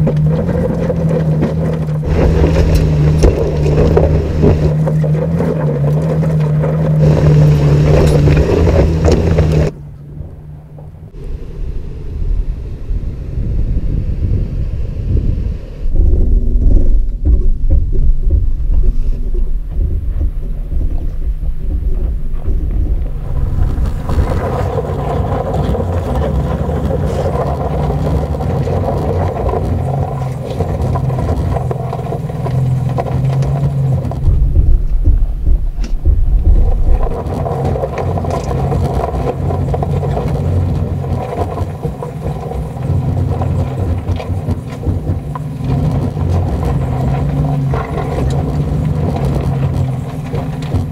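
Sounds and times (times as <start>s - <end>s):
tyres rolling over gravel: 0.0s - 10.9s, 19.4s - 50.9s
truck engine running at low speed: 0.0s - 50.9s.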